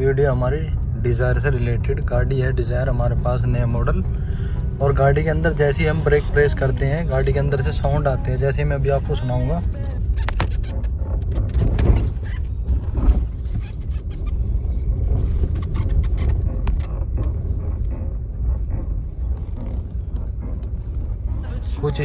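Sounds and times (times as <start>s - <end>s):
road and engine rumble: 0.0s - 22.0s.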